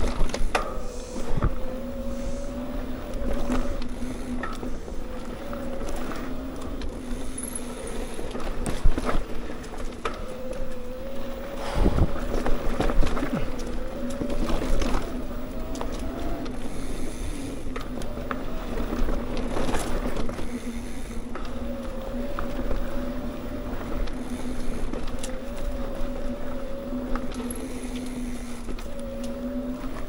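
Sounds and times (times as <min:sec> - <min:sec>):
bike rattling over bumps: 0:00.0 - 0:30.0
bike tyres rumbling on dirt: 0:00.0 - 0:30.0
wind on microphone: 0:00.0 - 0:30.0.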